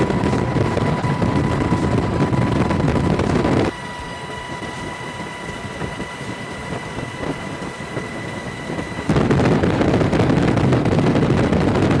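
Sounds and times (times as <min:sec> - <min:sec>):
faint high whine: 0:00.0 - 0:12.0
vehicle and wind rumble: 0:00.0 - 0:12.0.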